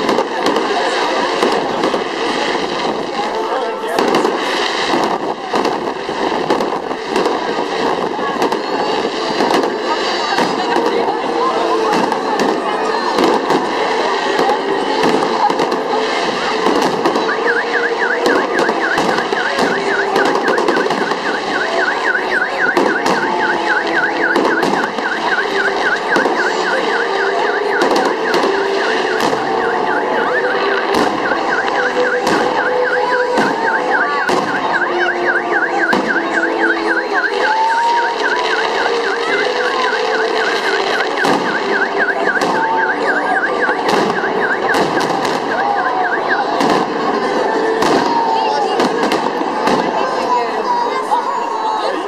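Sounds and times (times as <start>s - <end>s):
car alarm warbling: 0.0s - 52.0s
fireworks crackling and banging: 0.0s - 52.0s.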